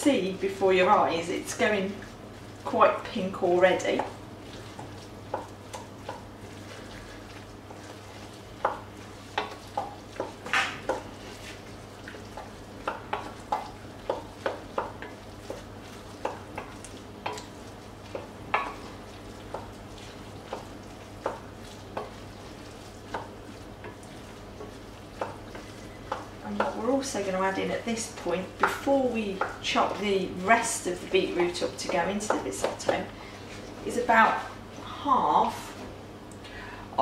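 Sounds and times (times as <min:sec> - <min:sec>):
rice simmering sizzle: 0:00.0 - 0:36.8
wooden spoon scraping pot: 0:00.2 - 0:35.9.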